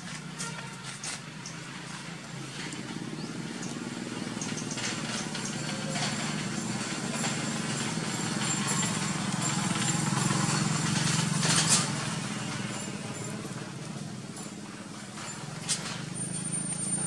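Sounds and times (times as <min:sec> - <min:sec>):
small engine running: 0:01.8 - 0:17.0.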